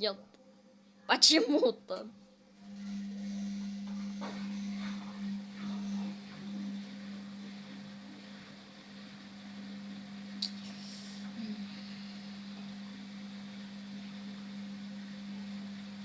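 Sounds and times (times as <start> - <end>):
washing machine spin hum: 0.0 - 16.0.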